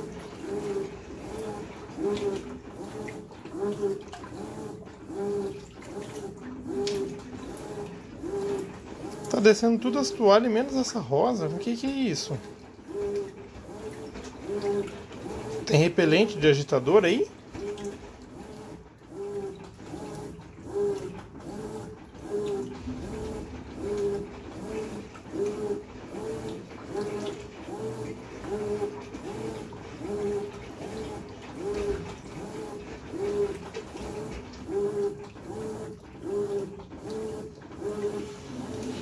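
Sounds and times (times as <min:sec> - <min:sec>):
washing machine motor whine: 0:00.0 - 0:39.0
water sloshing in washing machine: 0:00.0 - 0:39.0.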